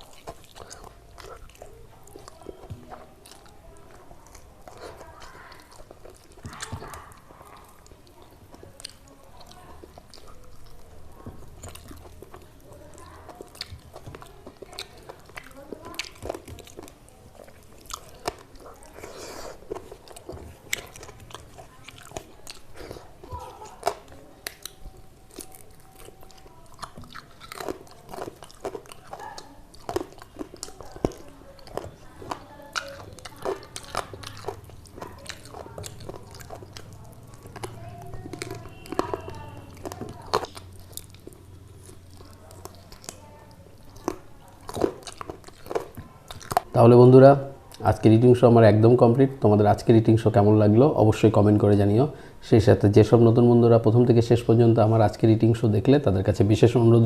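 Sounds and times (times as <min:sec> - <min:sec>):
person chewing food: 0:00.0 - 0:52.5.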